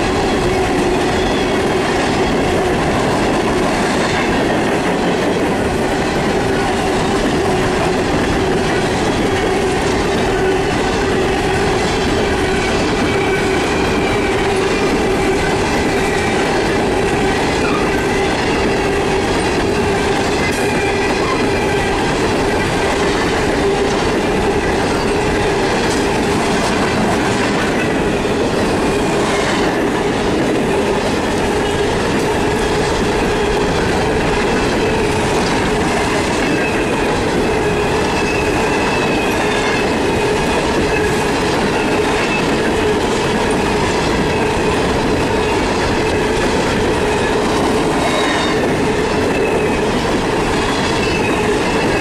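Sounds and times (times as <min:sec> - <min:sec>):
freight train wheels rumbling on rails: 0:00.0 - 0:52.0.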